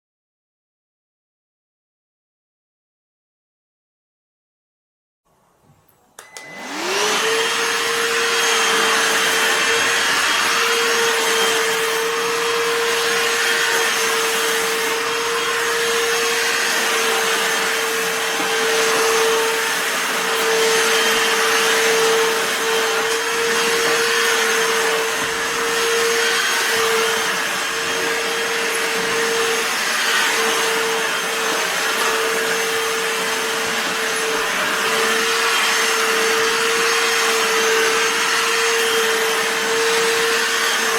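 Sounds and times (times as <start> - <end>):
handheld vacuum cleaner running: 6.2 - 40.9.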